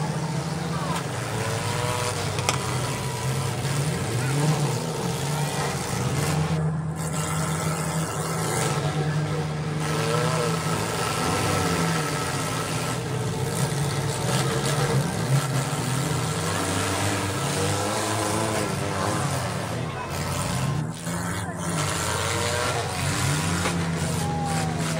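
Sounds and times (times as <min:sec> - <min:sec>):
car engines revving: 0:00.0 - 0:24.9.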